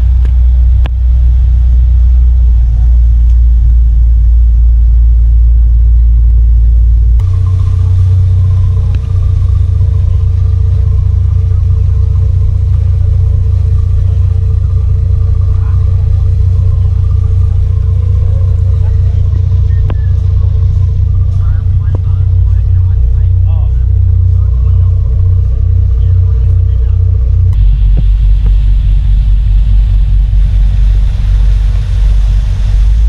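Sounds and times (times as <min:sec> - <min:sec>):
engine drone with hum: 0:00.0 - 0:33.0
ferry engines rumbling: 0:00.0 - 0:33.0.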